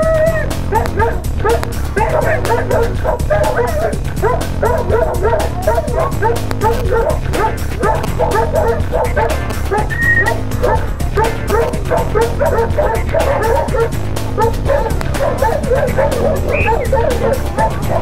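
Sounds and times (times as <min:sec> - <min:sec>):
background music: 0:00.0 - 0:18.0
dog barking and yipping: 0:00.0 - 0:18.0.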